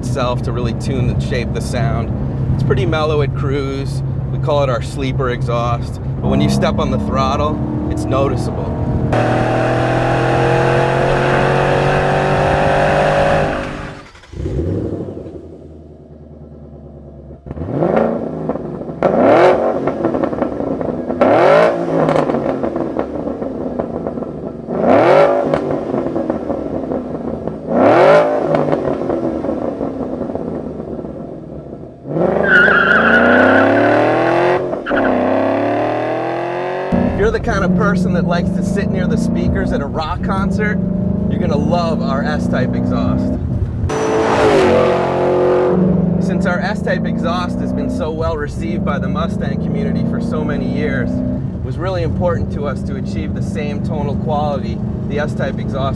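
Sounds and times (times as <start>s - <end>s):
car engine revving and idling: 0.0s - 31.1s, 32.0s - 55.9s.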